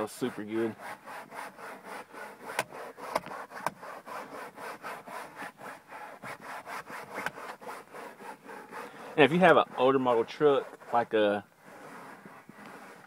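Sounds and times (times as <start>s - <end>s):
rapid rubbing strokes: 0.0s - 13.0s.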